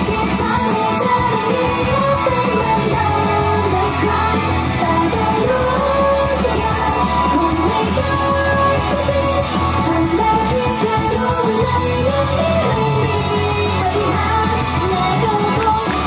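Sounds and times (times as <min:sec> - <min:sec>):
girl group singing live: 0:00.0 - 0:16.0
loud pop backing track: 0:00.0 - 0:16.0.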